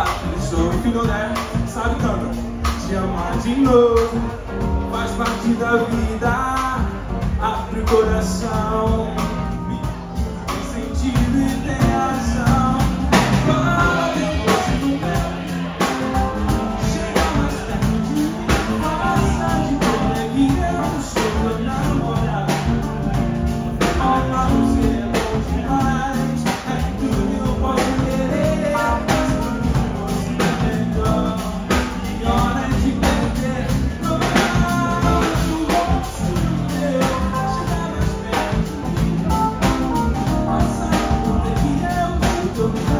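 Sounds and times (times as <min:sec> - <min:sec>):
drum kit: 0:00.0 - 0:42.9
man singing into microphone: 0:00.0 - 0:42.9.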